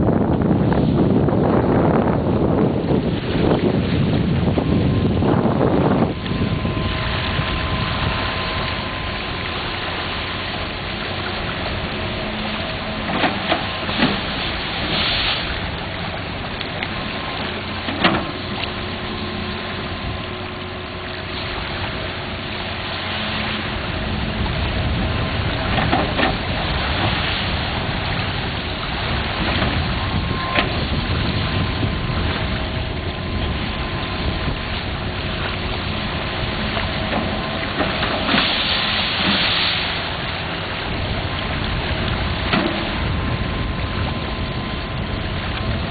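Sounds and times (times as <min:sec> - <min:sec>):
water rushing through channel: 0:00.0 - 0:45.9
wind on microphone: 0:00.0 - 0:45.9
faint steady hum: 0:03.6 - 0:45.9.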